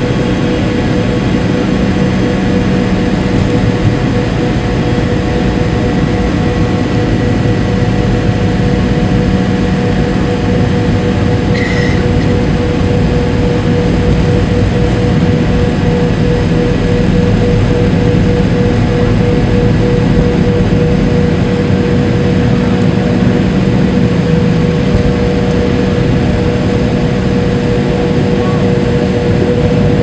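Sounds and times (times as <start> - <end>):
jet engines droning: 0.0 - 30.0
low rolling rumble: 0.0 - 30.0.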